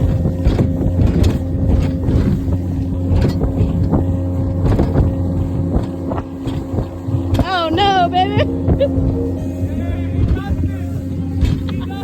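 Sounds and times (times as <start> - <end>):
boat hull slamming on waves: 0.0 - 9.3, 10.1 - 12.0
outboard motor running: 0.0 - 12.0.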